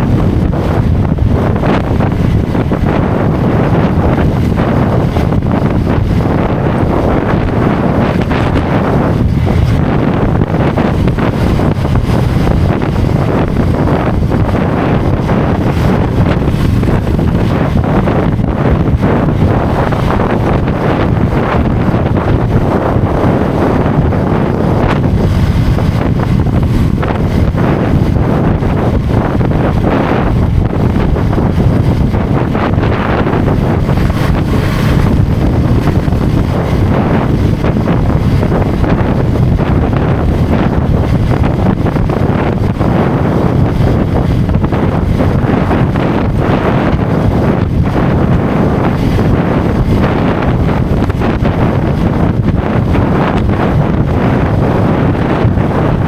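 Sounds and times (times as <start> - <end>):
wind buffeting on microphone: 0.0 - 56.0.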